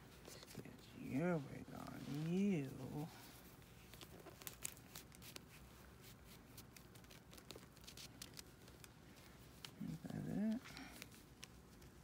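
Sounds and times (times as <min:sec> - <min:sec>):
faint rustling and handling clicks: 0:00.0 - 0:12.0.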